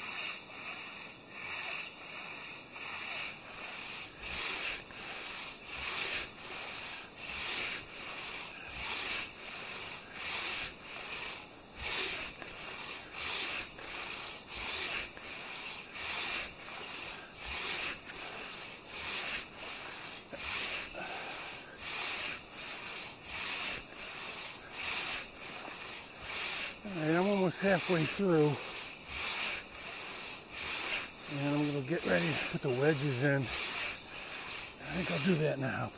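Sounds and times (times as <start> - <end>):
hand saw rasping through log: 0.0 - 35.9.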